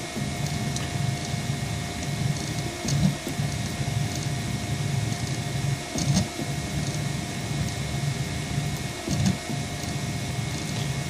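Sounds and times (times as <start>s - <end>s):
cooling fan humming: 0.0s - 11.0s.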